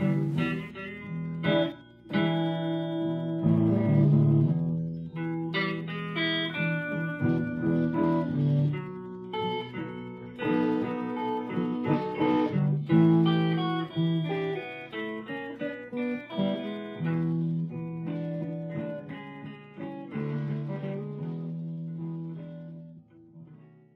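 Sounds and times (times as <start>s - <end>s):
blues guitar: 0.0s - 23.9s.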